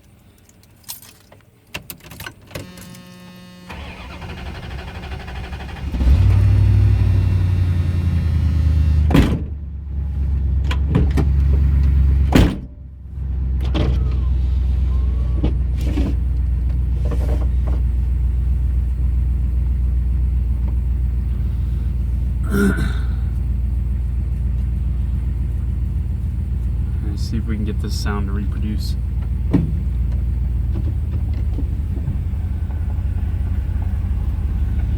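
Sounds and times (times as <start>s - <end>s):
engine and road rumble in cab: 0.0s - 34.9s.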